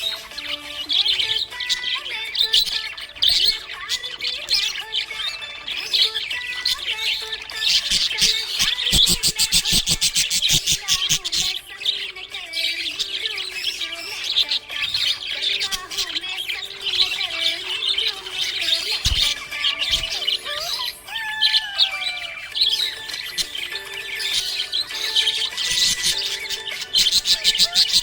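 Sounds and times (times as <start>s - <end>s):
parrots chirping and twittering: 0.0s - 28.0s.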